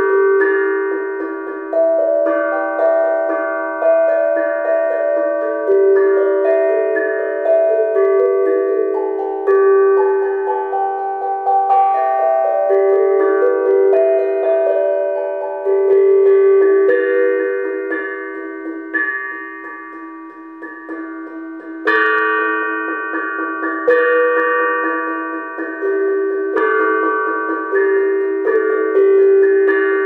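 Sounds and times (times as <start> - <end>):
steel drum melody: 0.0 - 30.0.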